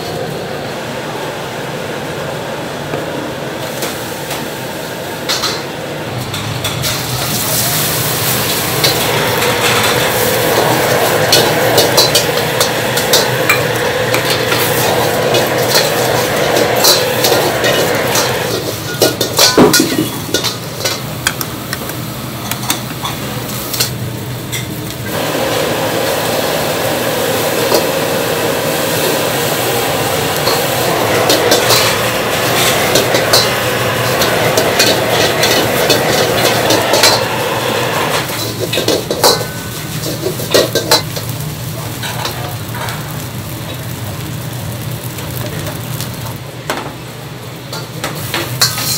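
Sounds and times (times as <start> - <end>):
rice sizzling: 3.5 - 48.9.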